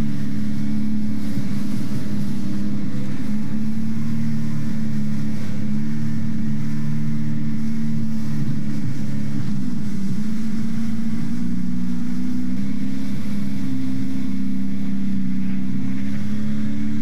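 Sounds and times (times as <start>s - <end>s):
motorboat engine humming: 0.0s - 17.0s
water rushing in boat wake: 0.0s - 17.0s.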